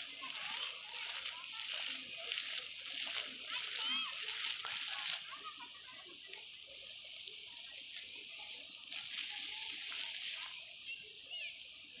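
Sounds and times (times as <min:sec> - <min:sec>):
fountain splashing: 0:00.0 - 0:11.9
faint voices: 0:00.0 - 0:12.0.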